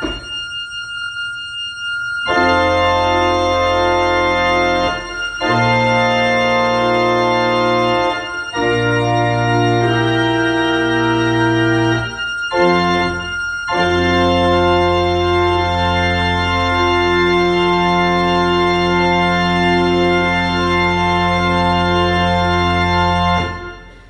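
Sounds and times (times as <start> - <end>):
pipe organ playing chords: 2.2 - 24.0.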